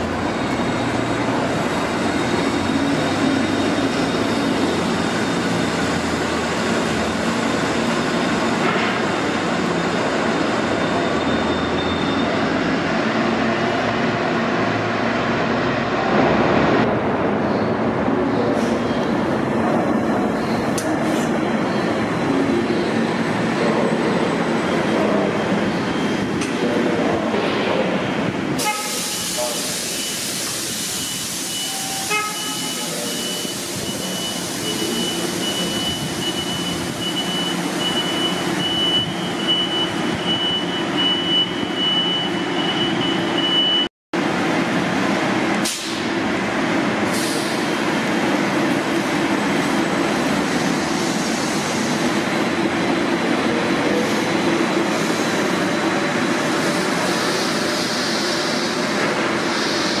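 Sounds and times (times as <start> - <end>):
trolleybus motor hum: 0.0 - 43.3, 44.2 - 60.0.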